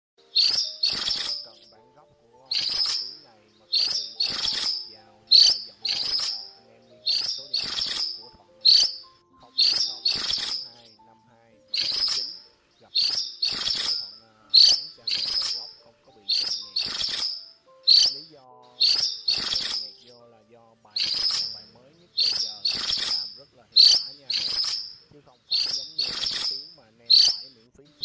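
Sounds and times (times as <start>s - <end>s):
bird high ringing calls: 0.2s - 20.1s, 20.8s - 28.0s.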